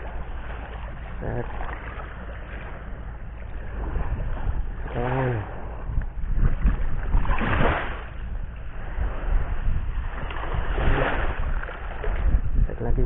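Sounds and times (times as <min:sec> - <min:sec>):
waves washing on shore: 0:00.0 - 0:12.6
wind buffeting microphone: 0:00.0 - 0:13.0.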